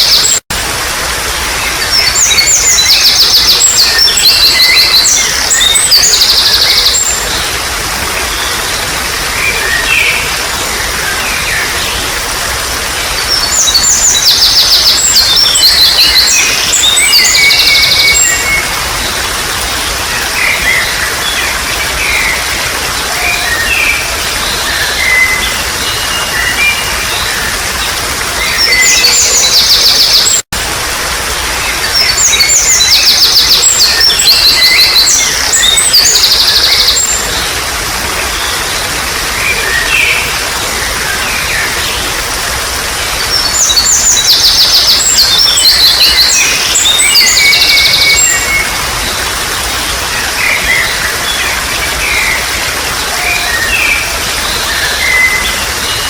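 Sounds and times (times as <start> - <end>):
birds singing: 1.0 - 30.5, 31.6 - 56.0.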